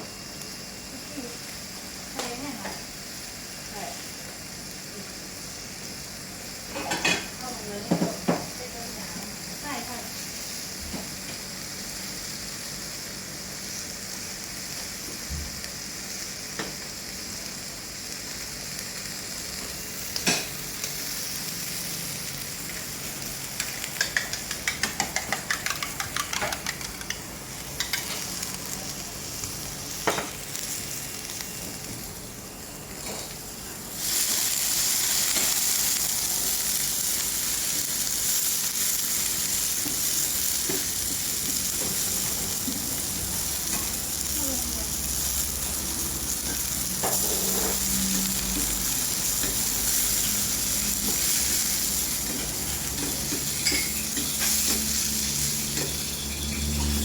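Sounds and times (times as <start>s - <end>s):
oysters sizzling on a hot pan: 0.0s - 57.0s.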